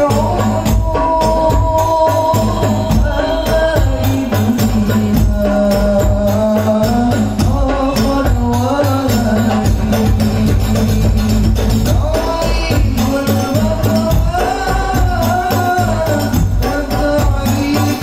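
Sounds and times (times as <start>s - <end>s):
frame drums and bass drums: 0.0s - 18.0s
man singing through microphone: 0.0s - 18.0s.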